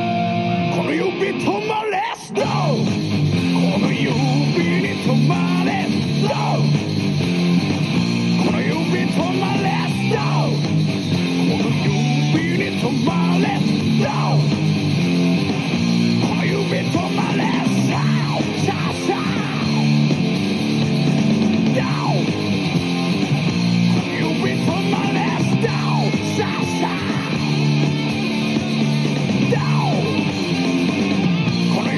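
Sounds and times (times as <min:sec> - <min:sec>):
instrumental rock music with guitar: 0:00.0 - 0:31.9.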